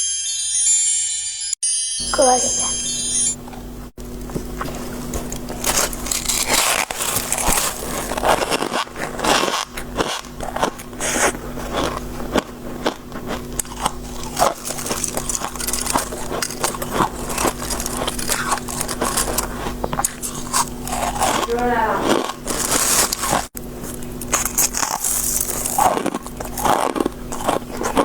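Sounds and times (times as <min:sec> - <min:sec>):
chewing crunchy shaved ice: 0:04.0 - 0:28.0.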